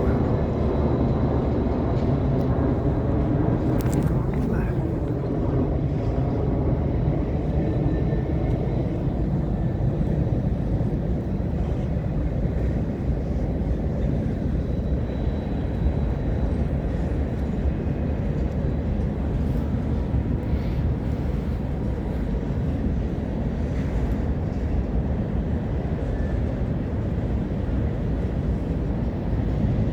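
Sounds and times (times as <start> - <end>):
freight train wheels rumbling: 0.0 - 29.9.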